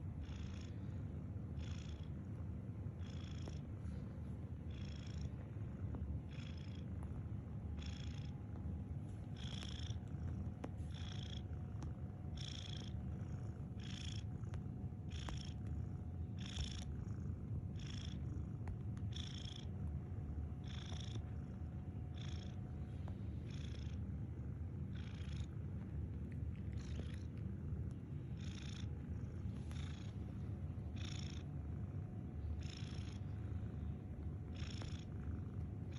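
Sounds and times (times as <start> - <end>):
cat snoring: 0.0 - 2.2, 2.9 - 25.8, 26.6 - 35.9.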